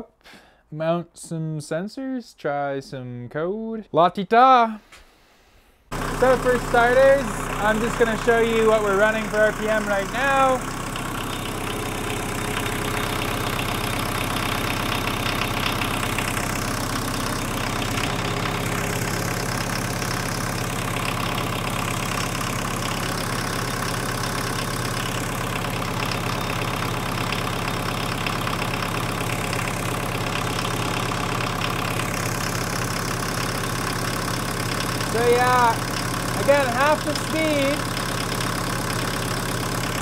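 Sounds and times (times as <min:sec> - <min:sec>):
diesel engine idling: 0:05.9 - 0:40.0.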